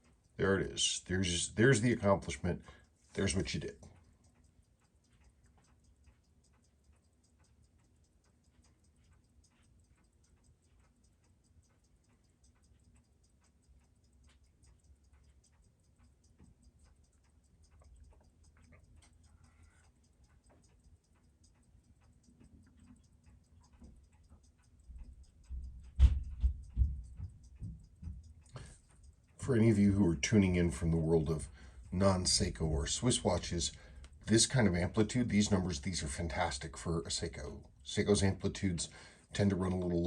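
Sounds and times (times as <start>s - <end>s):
watch movement ticking: 0.0s - 40.0s.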